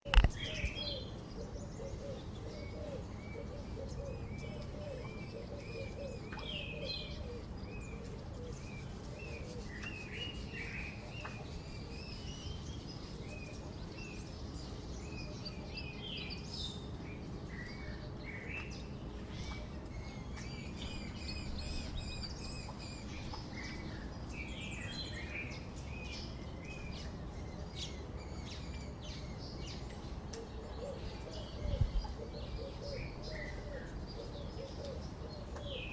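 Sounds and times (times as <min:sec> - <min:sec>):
low repeated bird calls: 0:00.0 - 0:35.9
wild birds chirping and trilling: 0:00.0 - 0:35.9.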